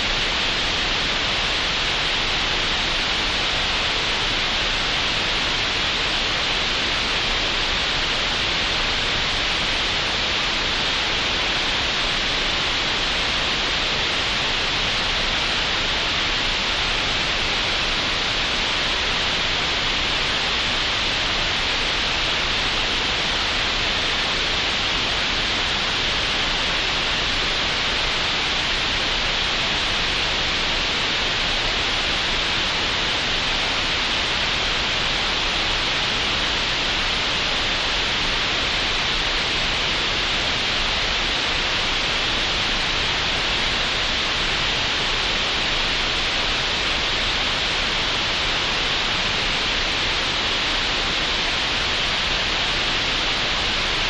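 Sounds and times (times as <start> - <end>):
steady noise hiss: 0.0 - 54.0.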